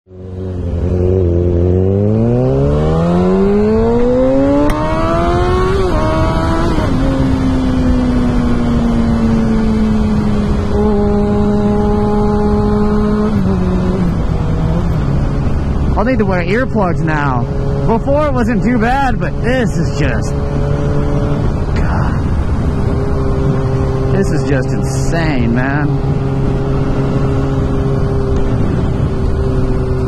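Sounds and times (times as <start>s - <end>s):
motorcycle engine accelerating: 0.1s - 30.0s.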